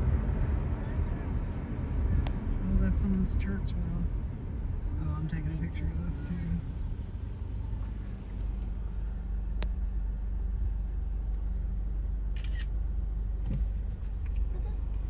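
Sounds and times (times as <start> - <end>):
car driving rumble inside cabin: 0.0 - 15.0.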